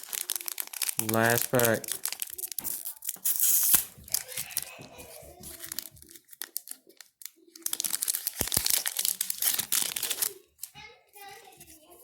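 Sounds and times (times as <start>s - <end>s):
wrapper crinkling and tearing: 0.0s - 11.9s.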